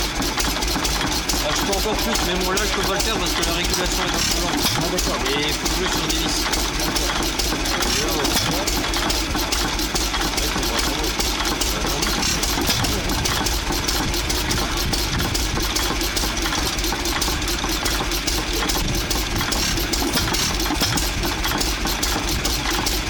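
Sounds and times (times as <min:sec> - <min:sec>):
stationary gas engine idling: 0:00.0 - 0:23.0.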